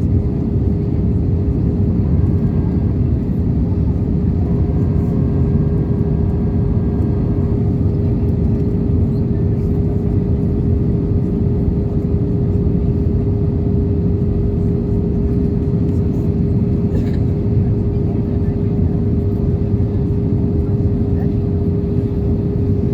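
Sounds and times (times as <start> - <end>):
airplane cabin engine roar: 0.0 - 22.9
constant hum: 0.0 - 22.9.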